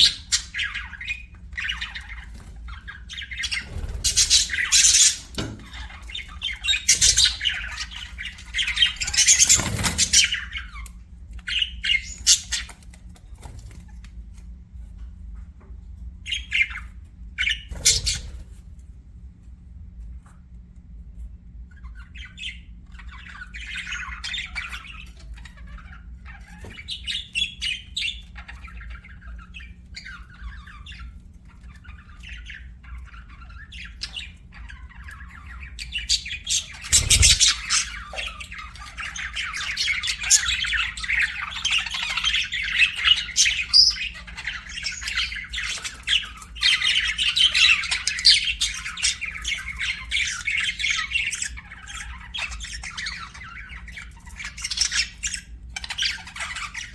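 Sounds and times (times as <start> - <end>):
budgerigars chirping: 0.0 - 12.9, 16.3 - 18.4, 21.7 - 56.9.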